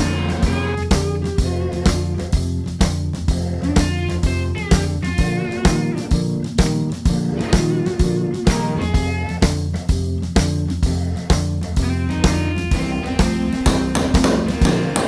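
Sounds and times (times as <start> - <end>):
bass guitar: 0.0 - 15.0
drum kit beat: 0.0 - 15.0.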